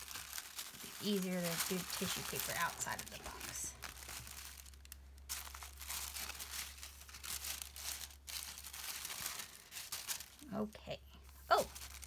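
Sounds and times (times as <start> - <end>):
tissue paper rustling and crinkling: 0.0 - 10.6, 11.2 - 12.0.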